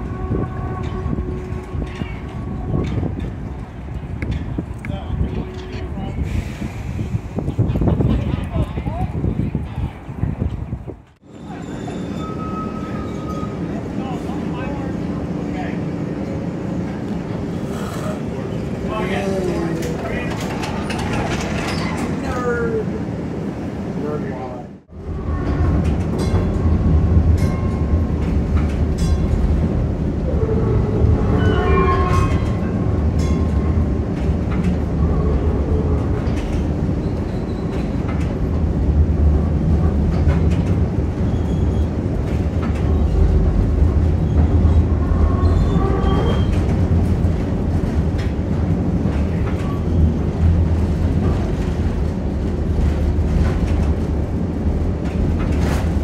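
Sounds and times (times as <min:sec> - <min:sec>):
streetcar wheels rumbling: 0:00.0 - 0:56.0.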